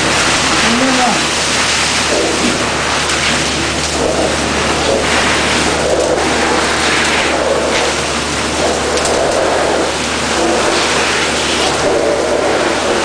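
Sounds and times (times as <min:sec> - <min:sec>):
vacuum hose sucking air: 0:00.0 - 0:13.0
vacuum unit humming: 0:00.0 - 0:13.0.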